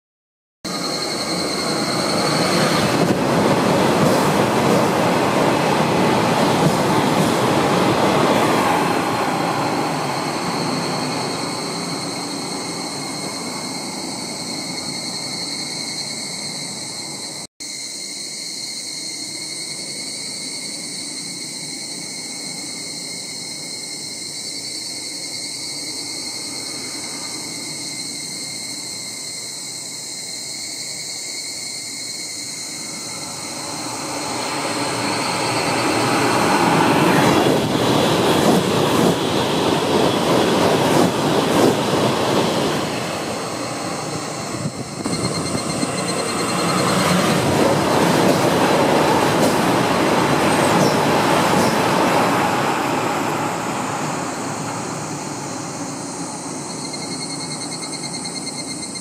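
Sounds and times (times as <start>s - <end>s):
high-pitched insect trilling: 0.7s - 3.8s, 4.6s - 59.0s
train passing with rushing roar: 0.7s - 59.0s.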